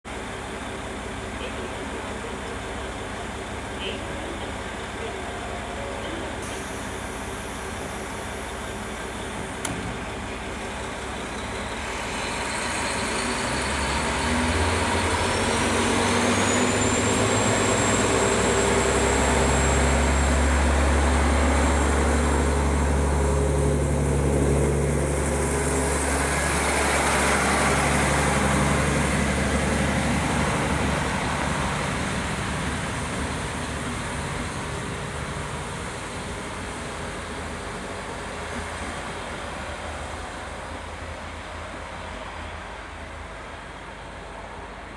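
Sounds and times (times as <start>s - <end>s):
diesel railcar engine: 0.0s - 44.9s.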